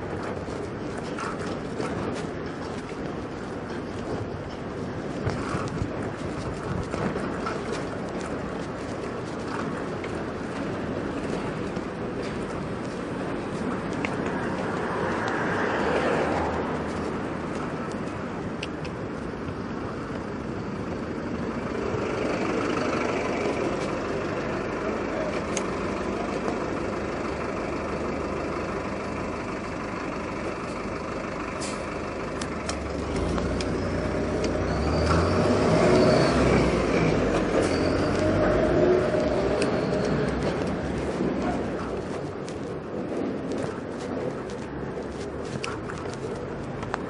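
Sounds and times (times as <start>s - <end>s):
street traffic: 0.0s - 47.0s
truck engine: 0.0s - 47.0s.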